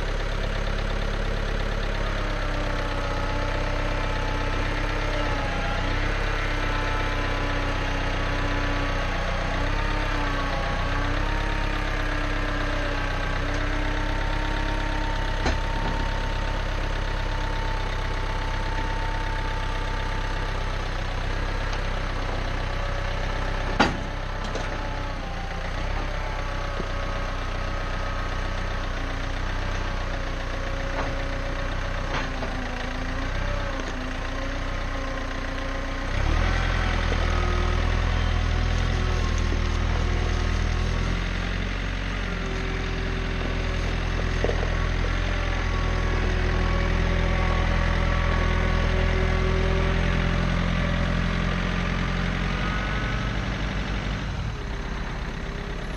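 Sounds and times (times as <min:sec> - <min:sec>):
backhoe engine running: 0:00.0 - 0:55.9.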